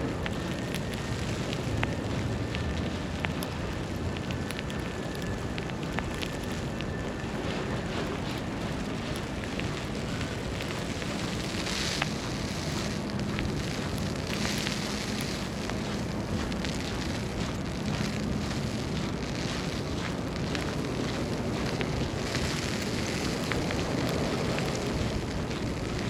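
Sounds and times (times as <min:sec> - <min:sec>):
low city rumble: 0:00.0 - 0:26.0
wind: 0:00.0 - 0:26.0
small ticks: 0:00.1 - 0:26.0.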